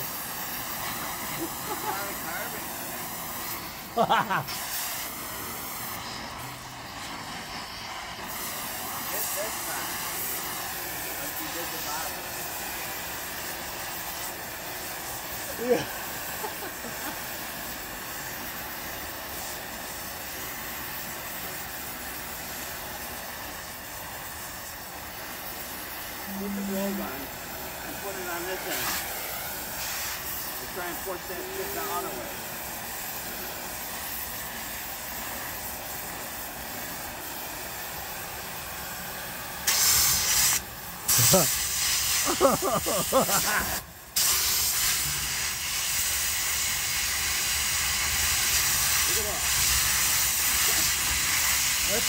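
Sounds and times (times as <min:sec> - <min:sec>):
gas torch hissing: 0:00.0 - 0:52.0.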